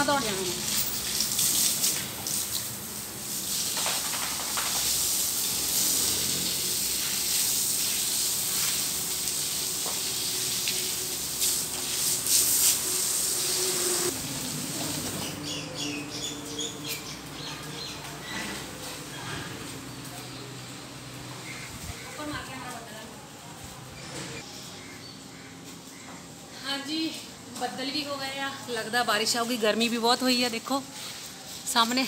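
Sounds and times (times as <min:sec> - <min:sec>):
hose water spraying on tiled floor: 0:00.0 - 0:25.9, 0:26.7 - 0:32.0.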